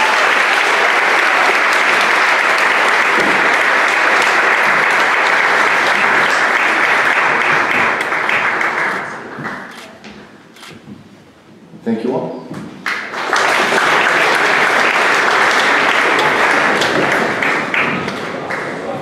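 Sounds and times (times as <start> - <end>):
audience applauding: 0.0 - 10.0, 12.8 - 19.0.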